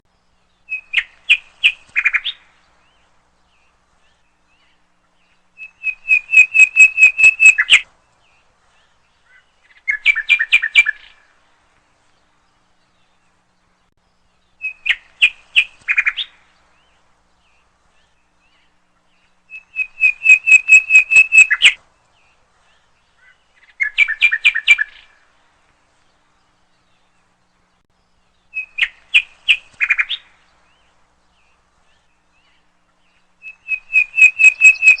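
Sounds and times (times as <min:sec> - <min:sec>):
nightingale singing: 0:00.1 - 0:08.5, 0:09.2 - 0:11.3, 0:12.6 - 0:25.2, 0:26.9 - 0:35.0.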